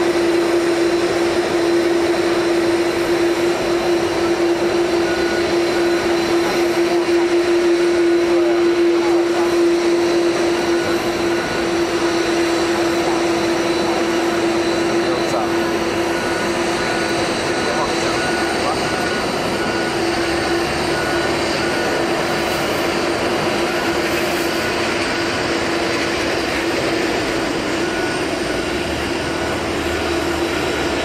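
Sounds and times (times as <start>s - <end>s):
jet engines idling: 0.0s - 31.0s.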